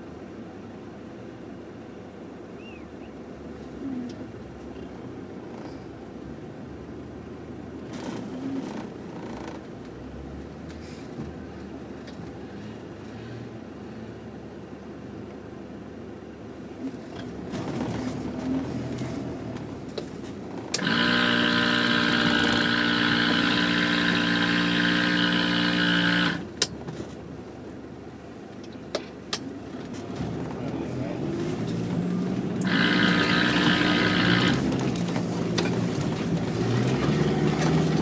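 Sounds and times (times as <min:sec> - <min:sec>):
off-road engines running: 0:00.0 - 0:38.0.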